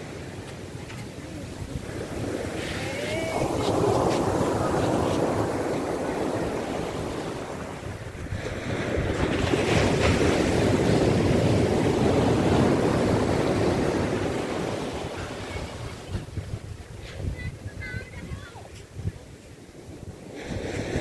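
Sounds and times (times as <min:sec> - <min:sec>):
ocean wave breaking on beach: 0:00.0 - 0:18.6, 0:19.8 - 0:21.0.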